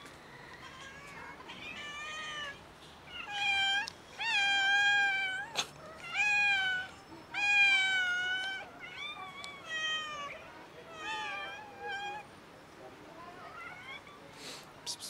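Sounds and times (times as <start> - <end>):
cats meowing loudly: 0.5 - 12.3, 13.4 - 14.2.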